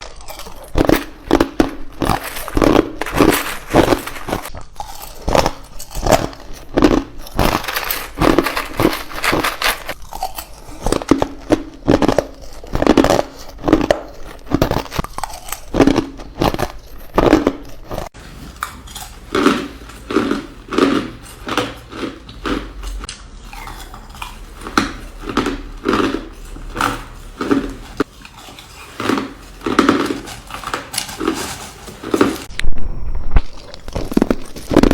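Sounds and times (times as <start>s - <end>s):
teeth crunching ice: 0.0s - 34.9s.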